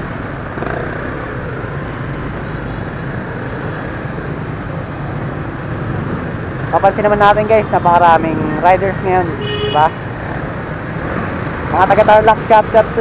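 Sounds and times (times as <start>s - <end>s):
motorcycle and scooter engines: 0.0s - 13.0s
road noise: 0.0s - 13.0s.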